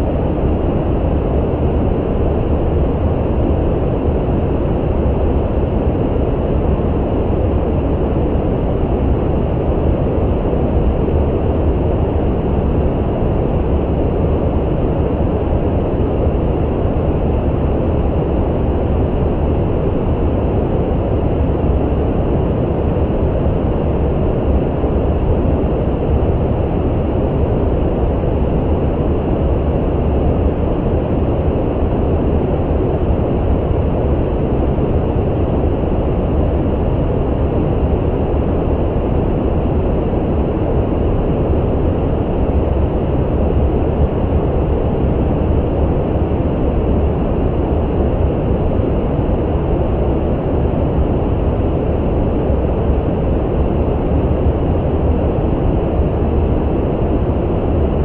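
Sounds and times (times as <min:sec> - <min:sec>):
deep steady brown noise hiss: 0:00.0 - 0:58.0.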